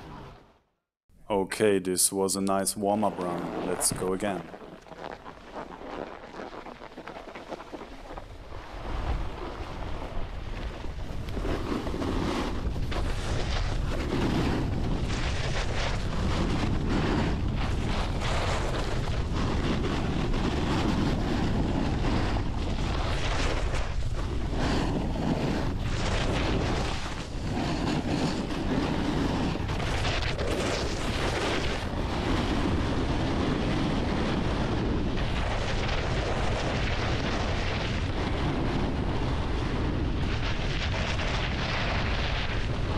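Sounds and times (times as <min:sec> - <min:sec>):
snowboard scraping over snow: 0:02.9 - 0:42.9
wind buffeting microphone: 0:07.7 - 0:42.9.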